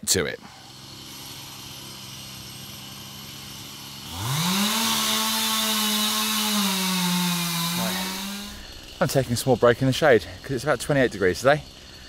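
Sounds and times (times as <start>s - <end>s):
chainsaw engine revving: 0.1s - 12.0s.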